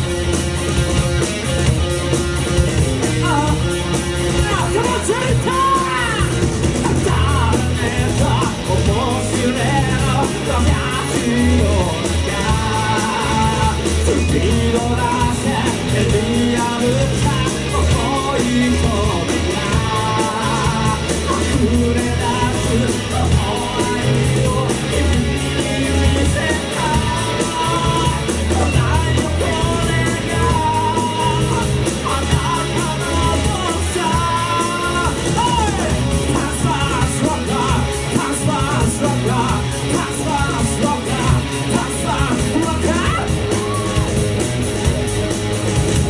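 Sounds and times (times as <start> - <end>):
live rock band playing: 0.0 - 46.0
person singing: 4.4 - 44.1.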